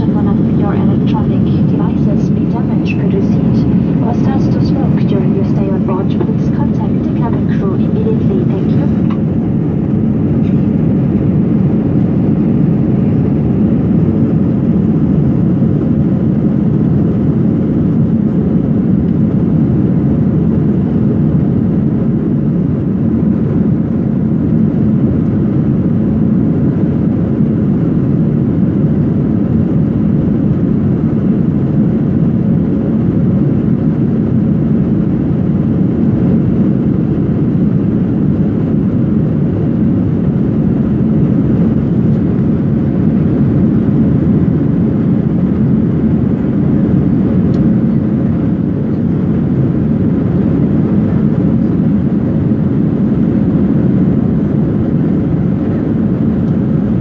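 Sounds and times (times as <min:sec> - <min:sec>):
aircraft cabin engine rumble: 0:00.0 - 0:57.0
faint constant hum: 0:00.0 - 0:57.0.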